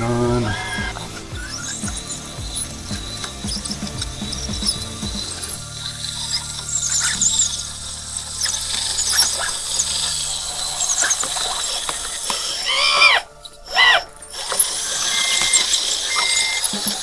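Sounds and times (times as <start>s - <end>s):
high squeaky chirps: 0.0s - 17.0s
hydraulic pump humming: 0.0s - 17.0s
rising and falling squeals: 0.0s - 17.0s.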